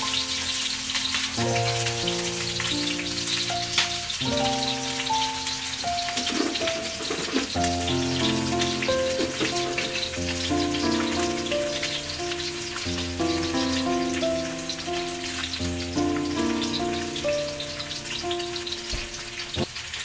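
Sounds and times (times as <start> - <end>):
background music sustained notes: 0.0 - 19.6
fish frying in oil: 0.0 - 20.0.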